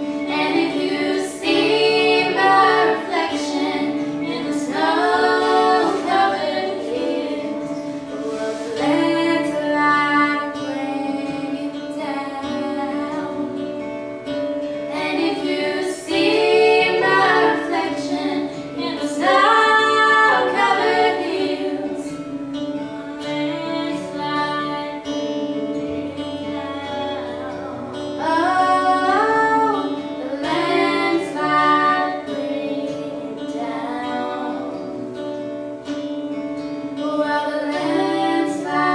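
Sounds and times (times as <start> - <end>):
woman singing: 0.0 - 14.0, 14.9 - 35.3, 37.0 - 38.9
guitar accompaniment: 0.0 - 38.9.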